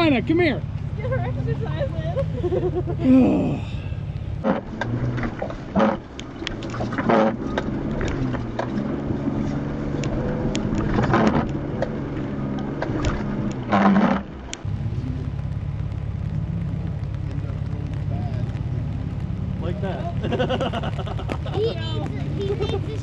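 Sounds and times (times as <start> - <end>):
off-road vehicle engine surging: 0.0 - 23.0
tyres churning through mud: 0.0 - 23.0
water splashing: 0.0 - 23.0.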